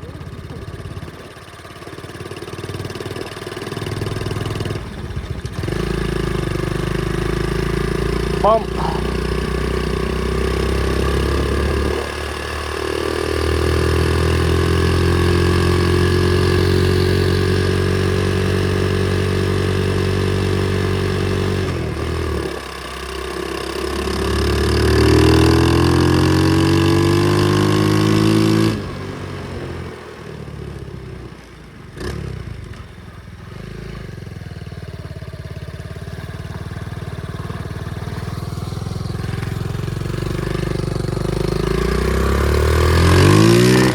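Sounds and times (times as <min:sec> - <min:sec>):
pit bike engine revving: 0:02.3 - 0:31.2, 0:34.9 - 0:43.9.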